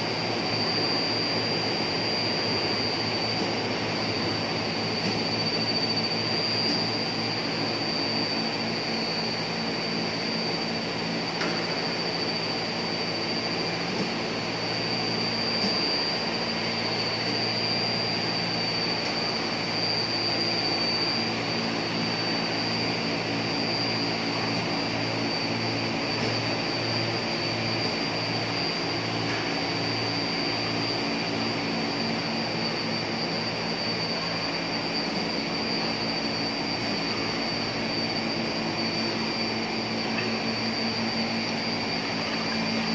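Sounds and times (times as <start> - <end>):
machine drone with high whine: 0.0 - 42.9.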